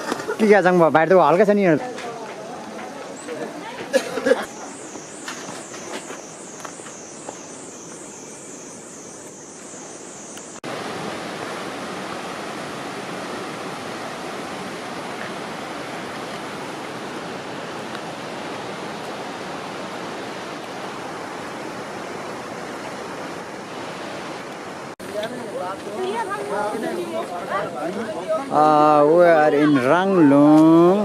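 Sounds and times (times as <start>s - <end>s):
fast-flowing water rushing: 0.0s - 31.0s.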